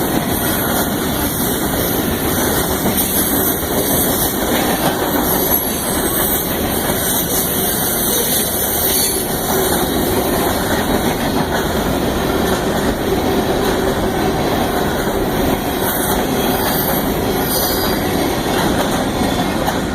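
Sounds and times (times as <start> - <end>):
train wheels on rail: 0.0 - 19.9.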